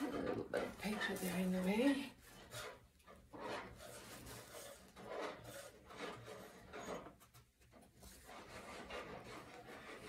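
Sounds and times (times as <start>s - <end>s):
stick scraping canvas edge: 0.0s - 10.0s.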